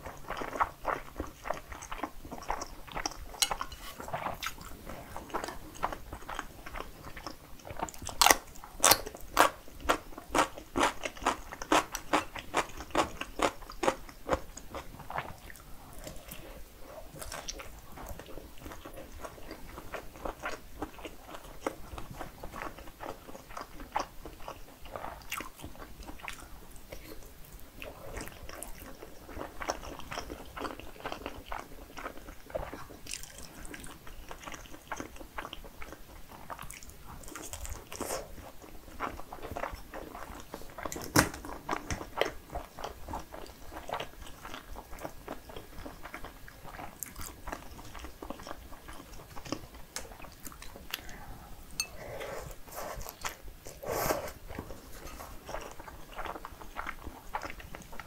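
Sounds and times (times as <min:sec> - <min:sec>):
close eating and chewing sounds: 0:00.0 - 0:58.0.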